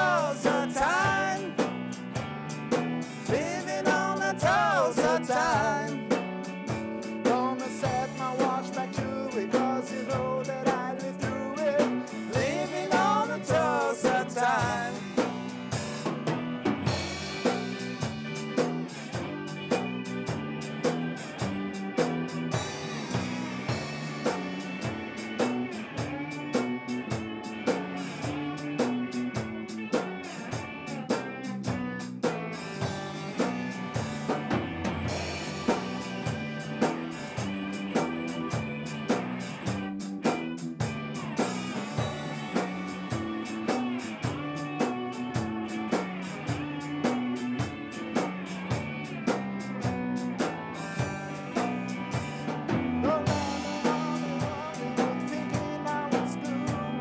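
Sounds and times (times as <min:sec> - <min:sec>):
bending lead guitar line: 0:00.0 - 0:57.0
drum kit beat: 0:00.0 - 0:57.0
rock band playing: 0:00.0 - 0:57.0.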